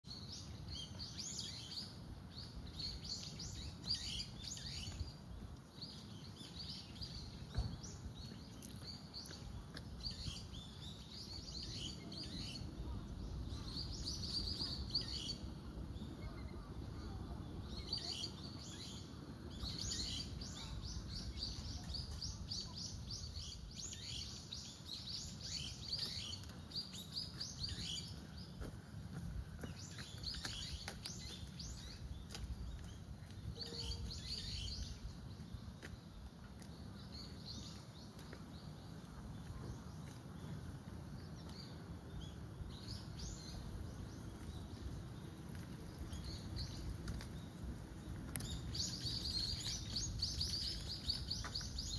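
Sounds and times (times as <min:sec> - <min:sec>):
birds chirping: 0:00.1 - 0:51.9.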